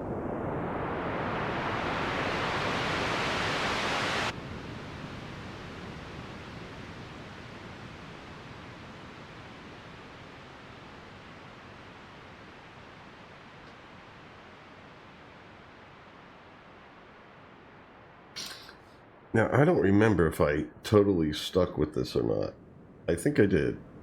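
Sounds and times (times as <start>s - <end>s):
synthesized ocean wave hiss: 0.0s - 19.8s.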